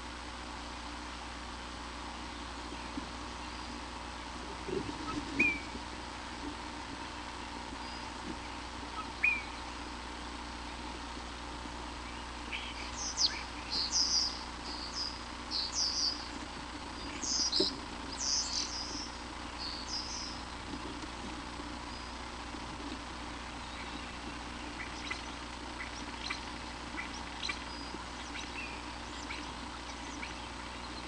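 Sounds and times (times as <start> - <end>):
faint steady hum: 0.0 - 31.0
birds chirping: 1.9 - 31.0.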